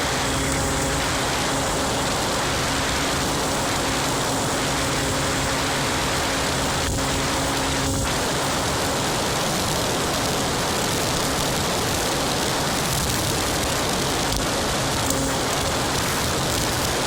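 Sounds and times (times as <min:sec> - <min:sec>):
scooter engine running: 0:00.0 - 0:17.0
wind noise on microphone: 0:00.0 - 0:17.0.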